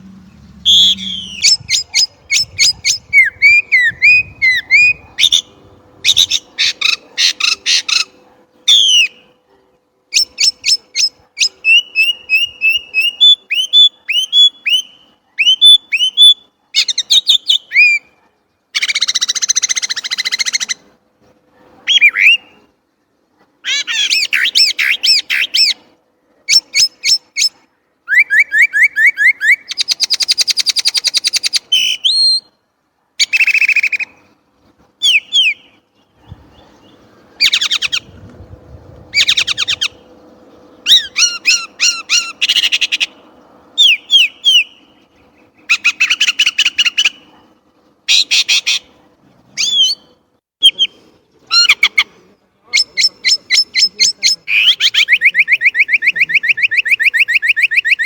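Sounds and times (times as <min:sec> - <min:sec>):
blackbird singing: 0:00.0 - 0:09.4, 0:10.1 - 0:18.2, 0:21.9 - 0:22.7, 0:23.6 - 0:25.8, 0:26.5 - 0:32.6, 0:35.0 - 0:43.2, 0:43.8 - 0:47.4, 0:49.6 - 0:58.0.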